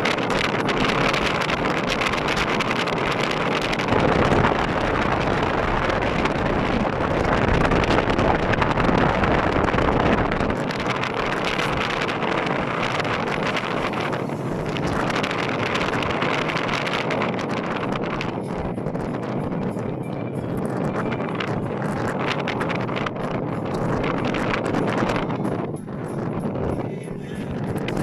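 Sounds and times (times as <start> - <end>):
tyre and road noise: 0.0 - 28.0
wind on microphone: 0.0 - 28.0.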